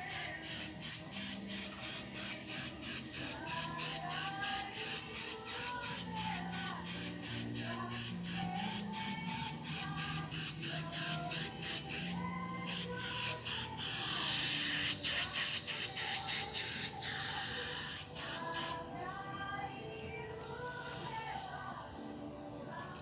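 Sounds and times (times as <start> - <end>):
spray paint hissing: 0.0 - 21.9
background music with steady beat: 0.0 - 23.0.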